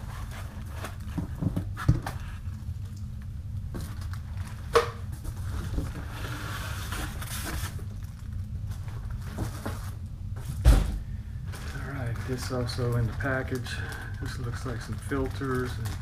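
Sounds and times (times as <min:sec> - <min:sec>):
packaging rustling: 0:00.0 - 0:02.6, 0:03.7 - 0:10.6, 0:11.4 - 0:16.0
steady low hum: 0:00.0 - 0:16.0.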